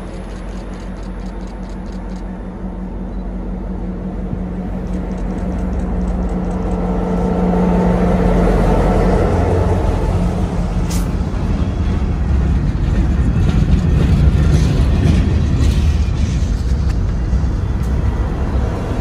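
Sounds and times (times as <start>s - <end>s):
diesel locomotive engine hum: 0.0s - 19.0s.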